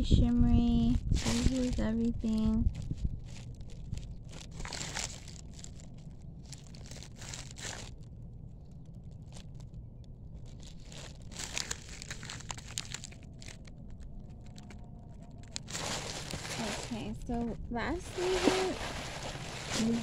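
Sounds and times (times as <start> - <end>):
low steady rumble: 0.0 - 20.0
rustling handling noise: 0.9 - 17.4, 18.0 - 20.0.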